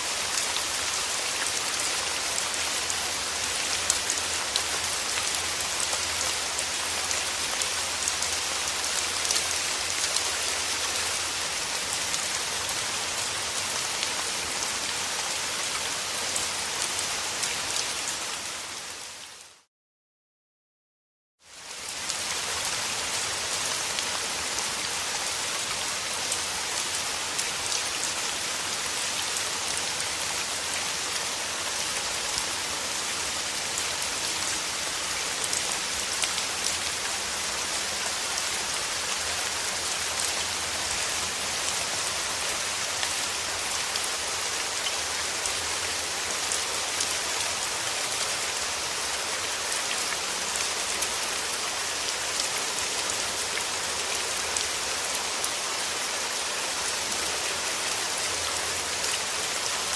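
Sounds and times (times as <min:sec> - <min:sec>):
steady rain falling: 0:00.0 - 0:19.7, 0:21.4 - 0:59.9.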